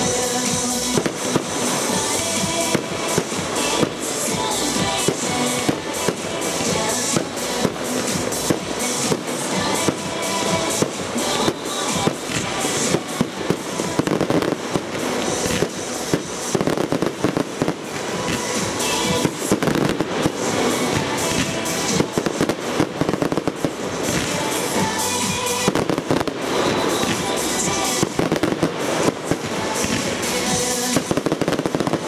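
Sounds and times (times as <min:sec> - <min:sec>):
fireworks bangs and crackles: 0:00.0 - 0:32.0
music: 0:00.0 - 0:32.0.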